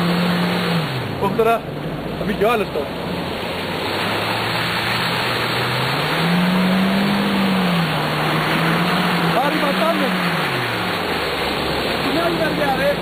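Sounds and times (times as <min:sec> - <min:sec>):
car engine revving: 0:00.0 - 0:13.0
tyres churning through mud: 0:00.0 - 0:13.0.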